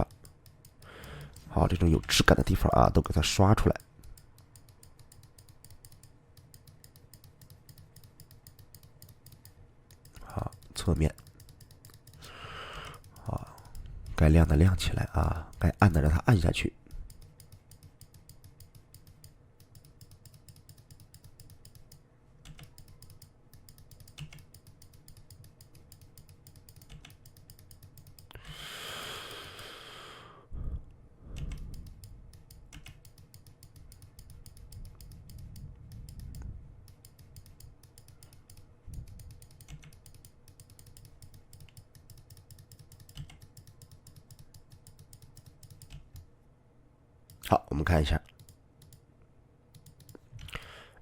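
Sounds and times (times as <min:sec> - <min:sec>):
mouse and keyboard clicking: 0:00.0 - 0:16.4, 0:17.0 - 0:28.6, 0:31.4 - 0:46.3, 0:48.3 - 0:49.0, 0:49.8 - 0:50.7.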